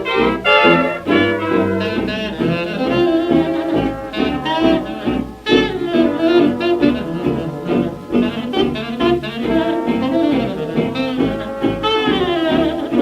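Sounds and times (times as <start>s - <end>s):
small-band jazz from a record: 0.0s - 13.0s.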